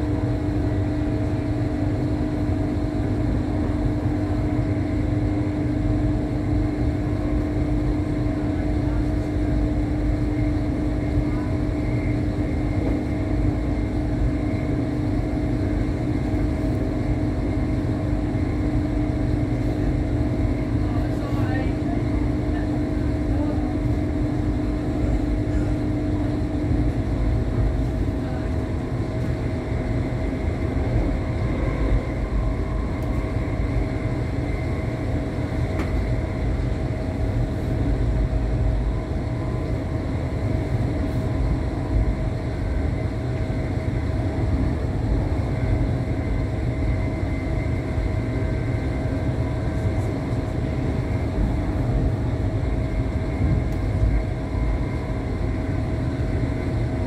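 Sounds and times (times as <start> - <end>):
faint hum: 0.0 - 57.0
train rumbling on rails: 0.0 - 57.0.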